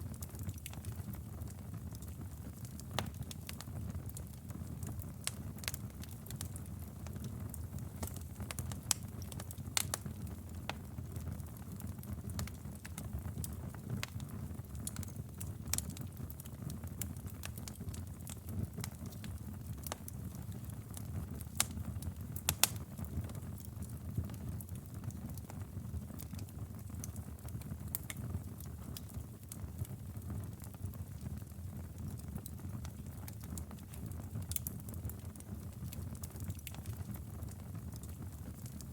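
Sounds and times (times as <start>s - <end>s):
fire crackling and popping: 0.0s - 38.9s
fire rumbling: 0.1s - 38.9s.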